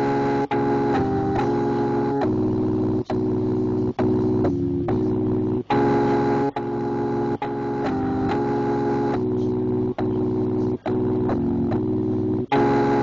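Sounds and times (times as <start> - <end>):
organ-like keyboard chords: 0.0 - 13.0.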